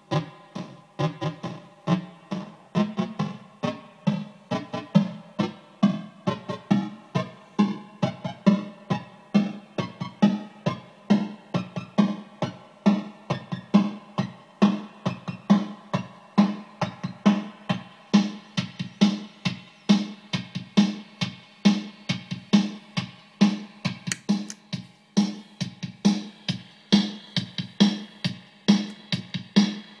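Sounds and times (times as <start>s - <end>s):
drum machine beat: 0.0s - 30.0s.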